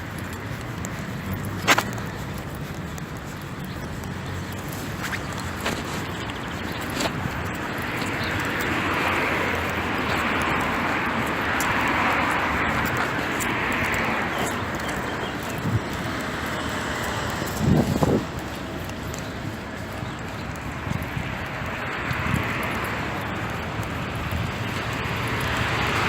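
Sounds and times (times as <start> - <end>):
dripping ticks: 0.0 - 26.0.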